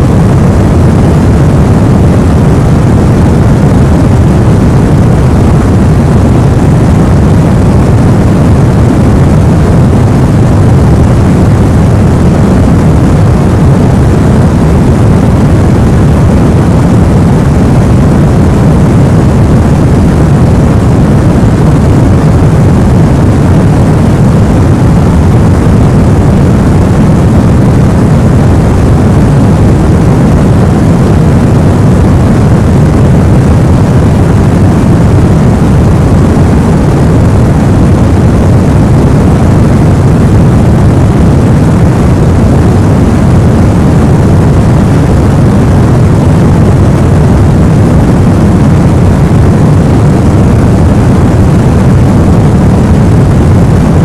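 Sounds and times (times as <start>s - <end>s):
low white noise: 0.0s - 53.8s.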